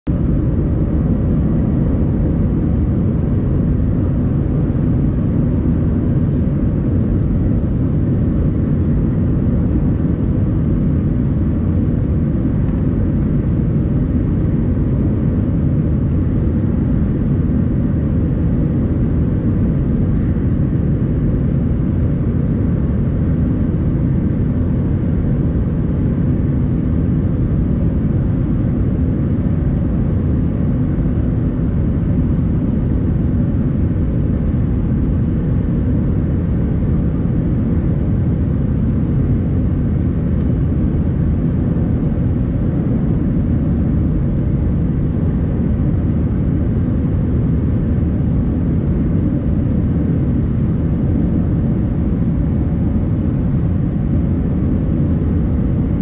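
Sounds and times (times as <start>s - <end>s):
aircraft cabin rumble: 0.0s - 56.0s
faint steady hum: 0.1s - 56.0s.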